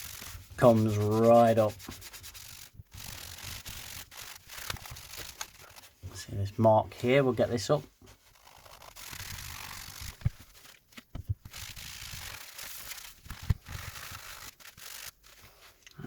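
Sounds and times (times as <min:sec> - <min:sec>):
scratchy rubbing on plastic: 0:00.0 - 0:06.2, 0:07.9 - 0:15.8.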